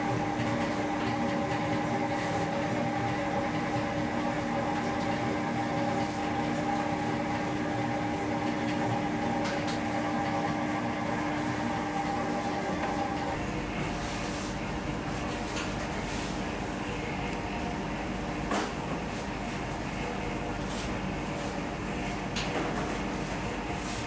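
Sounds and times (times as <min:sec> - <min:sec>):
bakery machinery humming: 0:00.0 - 0:24.0.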